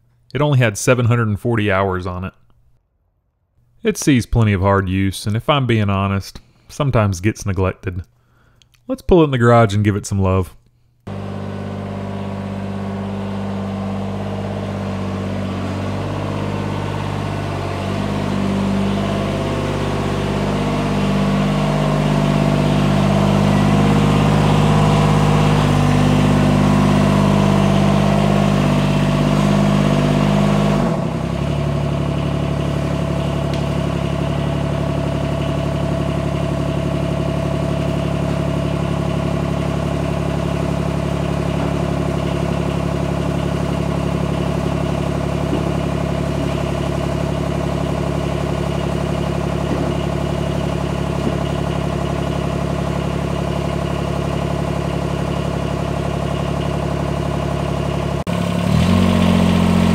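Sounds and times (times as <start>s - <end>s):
diesel tractor engine running: 11.1s - 59.9s
engine idling: 11.1s - 59.9s.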